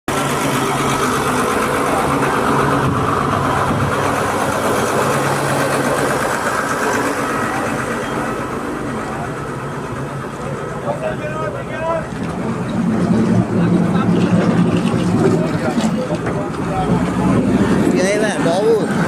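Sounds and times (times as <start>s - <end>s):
truck engine running: 0.1s - 19.0s.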